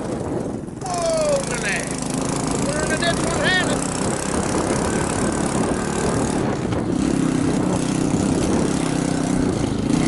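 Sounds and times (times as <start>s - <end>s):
small vehicle engine running: 0.0s - 10.0s.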